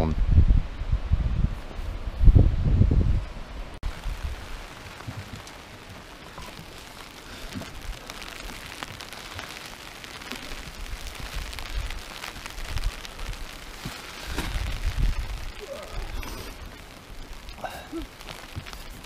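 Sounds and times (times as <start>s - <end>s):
wind rumbling on microphone: 0.0s - 19.0s
rain on a tarp: 2.7s - 19.0s.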